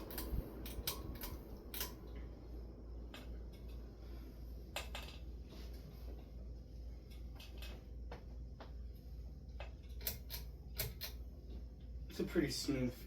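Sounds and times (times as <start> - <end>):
ceiling fan running: 0.0 - 13.0.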